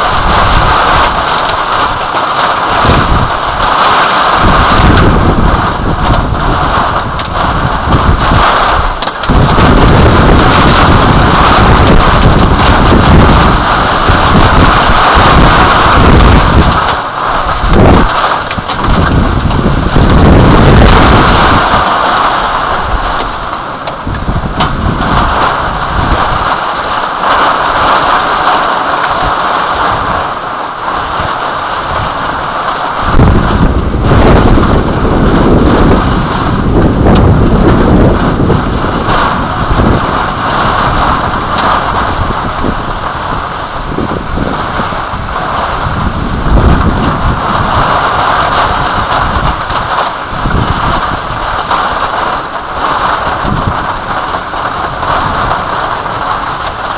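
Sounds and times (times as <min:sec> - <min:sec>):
heavy rain falling: 0:00.0 - 0:56.9
thunder rumbling: 0:00.0 - 0:56.9.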